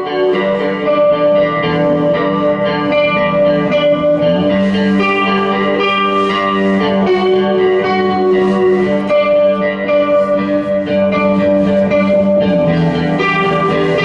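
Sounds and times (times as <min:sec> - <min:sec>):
live band with guitar chords: 0:00.0 - 0:14.0.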